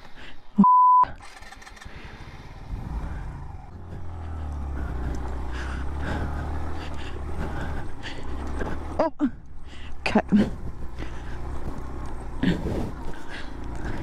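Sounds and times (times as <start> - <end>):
motorcycle engine under throttle: 1.2 - 14.0.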